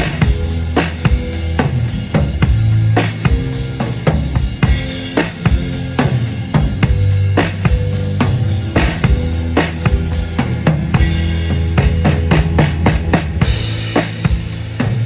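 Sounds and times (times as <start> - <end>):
drum kit beat: 0.0 - 15.0
low bass notes: 0.0 - 15.0.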